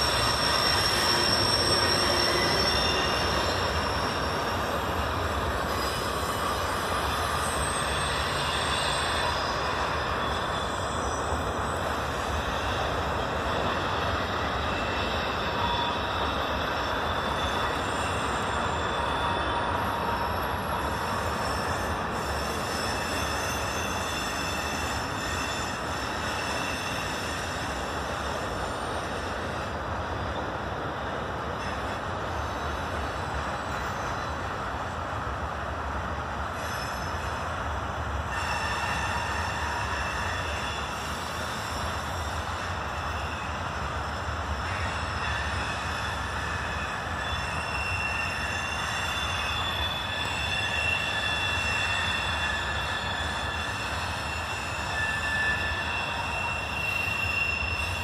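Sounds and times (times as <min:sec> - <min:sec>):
high-pitched wheel squeal: 0:00.0 - 0:29.7, 0:36.5 - 0:37.6, 0:38.3 - 0:58.0
wheels rumbling on rails: 0:00.0 - 0:58.0.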